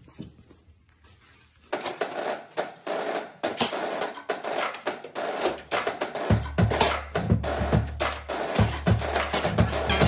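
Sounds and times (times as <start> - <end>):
busy percussive background music: 1.8 - 10.0.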